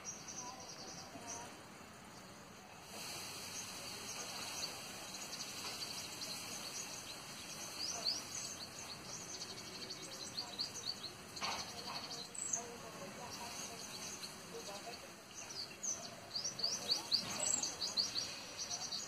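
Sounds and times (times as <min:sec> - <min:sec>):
small birds chirping: 0:00.0 - 0:19.0
steady hiss: 0:00.0 - 0:19.0.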